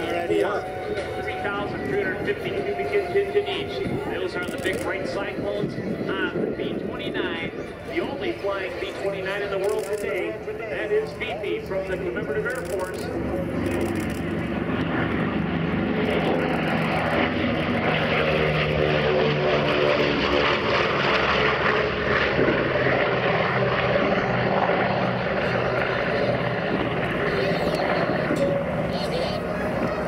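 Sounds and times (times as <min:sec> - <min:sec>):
propeller plane flying past: 0:00.0 - 0:30.0.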